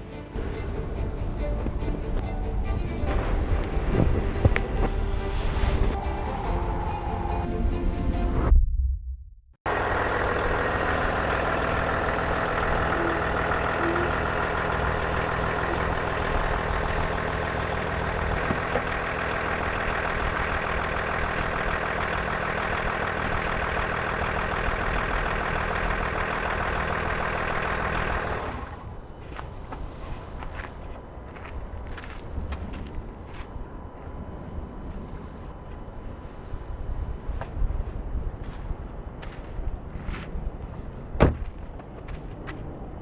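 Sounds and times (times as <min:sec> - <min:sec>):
engine running with low hum: 0:00.0 - 0:08.6, 0:09.7 - 0:43.0.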